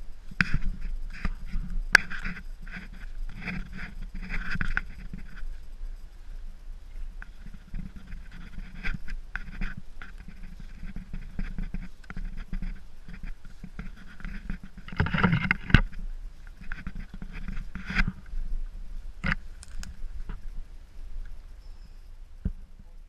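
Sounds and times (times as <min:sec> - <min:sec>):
handheld camera rumble: 0:00.0 - 0:23.0.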